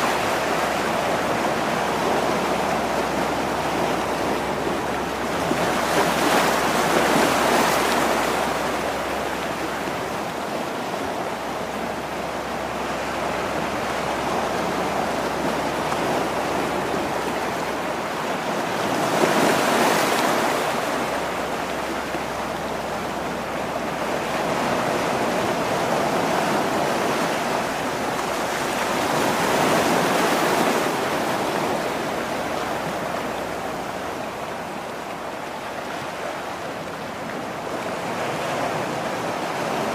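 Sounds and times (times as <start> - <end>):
waves washing against rocks: 0.0 - 39.9.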